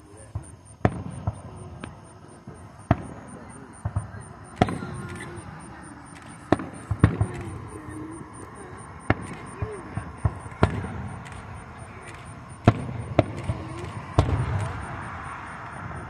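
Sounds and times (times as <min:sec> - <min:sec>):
firework bangs: 0:00.2 - 0:16.0.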